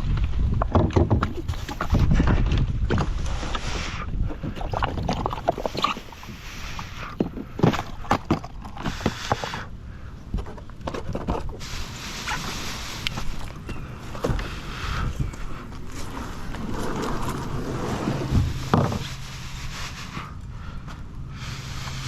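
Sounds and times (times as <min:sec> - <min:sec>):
knocks and scrapes on a kayak: 0:00.0 - 0:09.7, 0:10.3 - 0:22.0.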